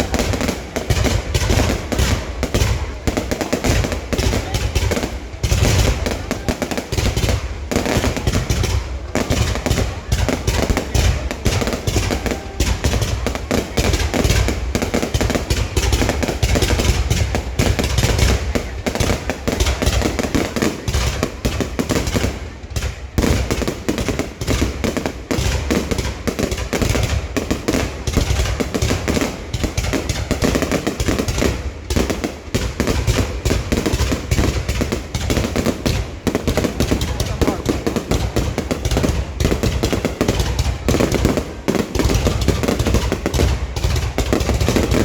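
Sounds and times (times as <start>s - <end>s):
fireworks crackling and booming: 0.0s - 45.0s.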